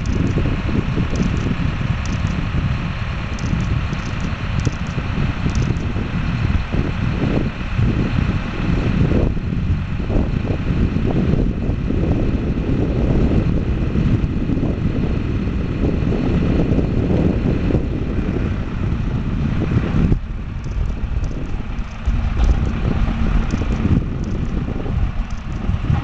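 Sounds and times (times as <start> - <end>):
road roller engine rumbling: 0.0 - 26.0.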